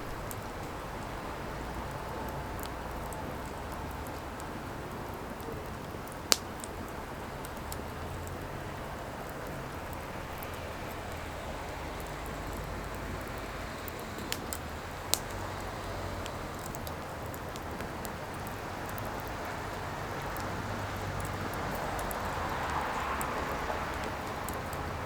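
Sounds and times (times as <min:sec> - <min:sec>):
fire hissing and crackling: 0:00.0 - 0:25.0.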